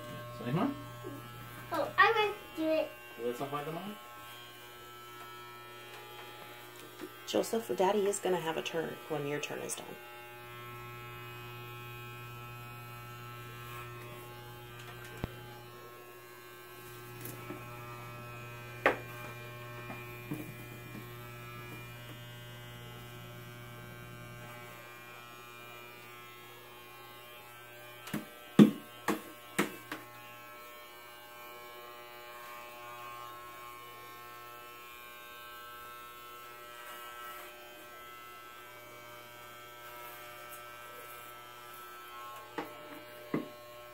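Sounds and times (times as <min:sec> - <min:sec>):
electric hair clippers buzzing: 0:00.0 - 0:43.9.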